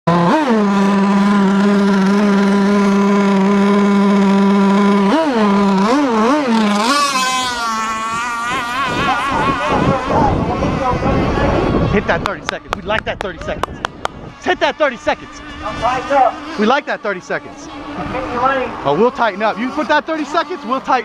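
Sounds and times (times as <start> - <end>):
higher wavering engine note: 0.1 - 21.0
model boat engine revving: 0.1 - 21.0.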